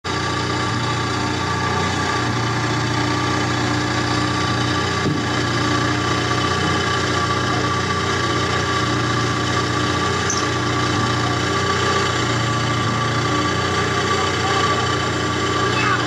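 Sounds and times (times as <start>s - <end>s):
steady mechanical hum: 0.1s - 16.0s.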